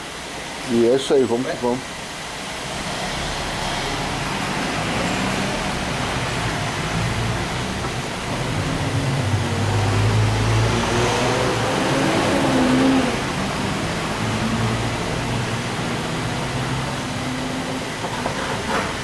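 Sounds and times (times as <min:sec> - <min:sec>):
engine running: 0:02.5 - 0:19.0.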